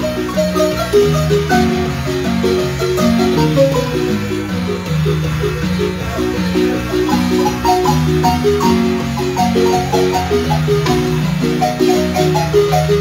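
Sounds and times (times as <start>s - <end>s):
marimba music: 0.0s - 13.0s.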